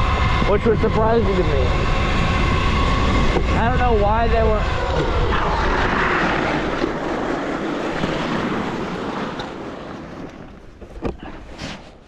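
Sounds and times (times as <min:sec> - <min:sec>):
wind rushing over microphone: 0:00.0 - 0:11.5
electric dirt bike tyre and motor: 0:00.0 - 0:12.0.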